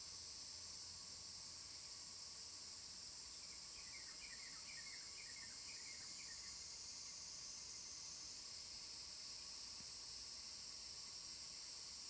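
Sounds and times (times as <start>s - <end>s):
cicadas chorus: 0.1s - 12.0s.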